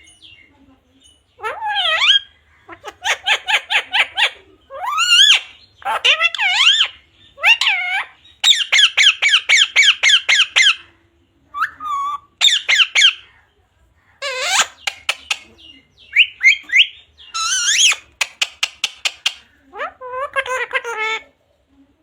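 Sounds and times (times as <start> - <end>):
parrot squawking: 1.4 - 10.9, 11.6 - 13.3, 14.2 - 15.5, 16.1 - 21.3.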